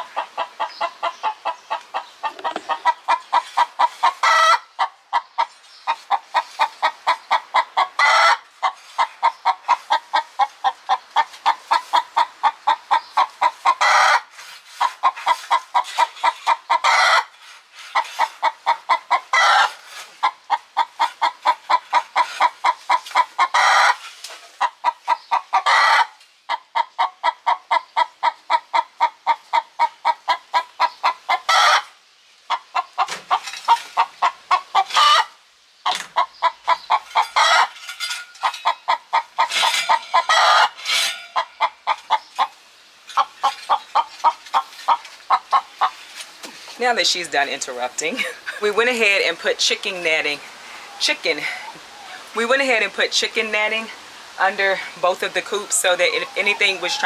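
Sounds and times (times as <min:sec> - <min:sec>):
hen clucking: 0:00.0 - 0:57.0.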